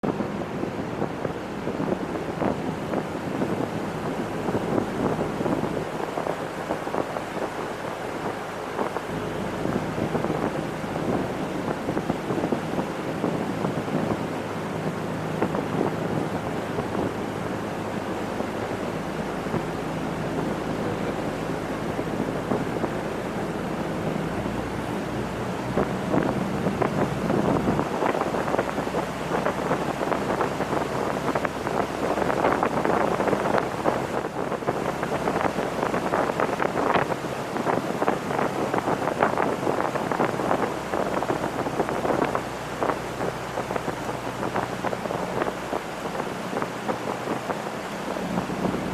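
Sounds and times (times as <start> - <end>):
motorboat engine drone: 0.0 - 48.9
rushing water: 0.0 - 48.9
wind buffeting microphone: 0.0 - 48.9.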